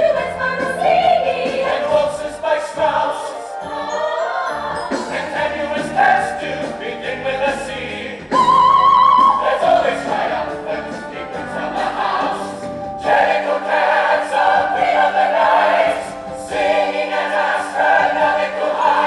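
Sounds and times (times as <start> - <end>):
chorus singing: 0.0 - 19.0
orchestral accompaniment: 0.0 - 19.0.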